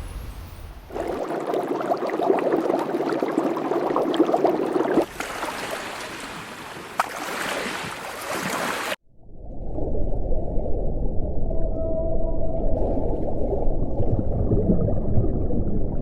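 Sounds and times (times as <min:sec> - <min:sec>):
water bubbling and gurgling: 0:00.9 - 0:16.0.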